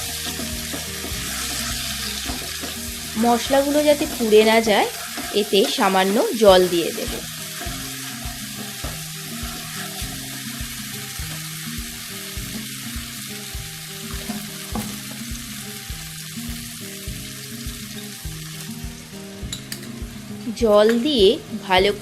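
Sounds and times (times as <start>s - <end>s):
background music with steady beat: 0.0s - 22.0s
paste sizzling in oil: 0.0s - 22.0s.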